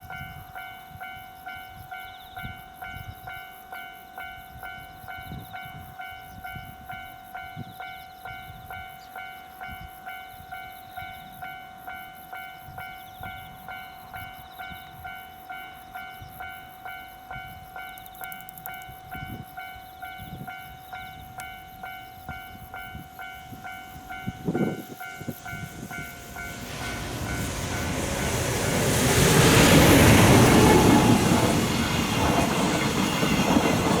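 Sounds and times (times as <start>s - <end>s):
approaching freight train: 0.0s - 34.0s
level crossing warning bell: 0.1s - 34.0s.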